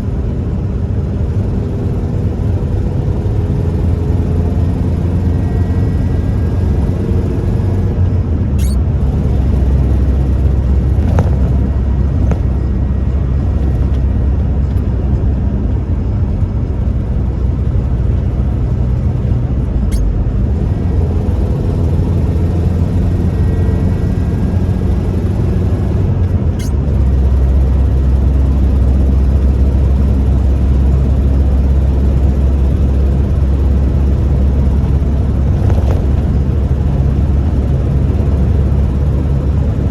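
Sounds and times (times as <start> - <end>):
pickup truck engine and road drone: 0.0 - 39.9.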